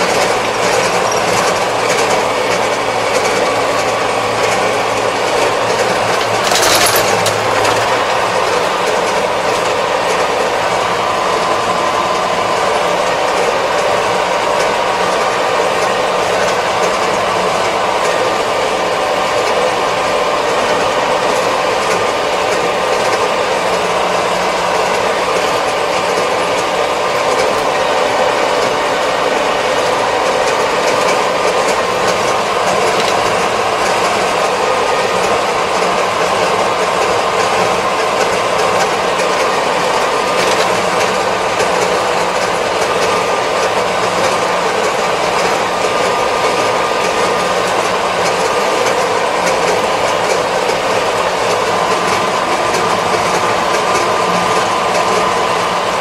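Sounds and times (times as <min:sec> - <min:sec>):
tractor engine and drivetrain noise: 0:00.0 - 0:56.0.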